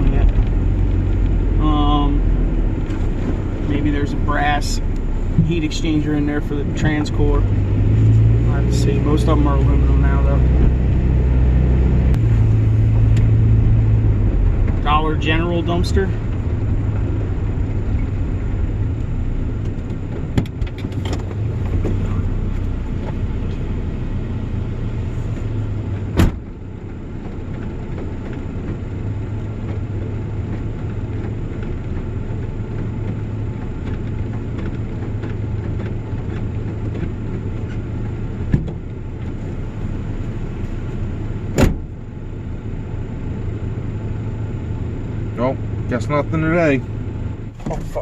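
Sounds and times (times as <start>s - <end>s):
vehicle engine and road hum: 0.0s - 48.0s.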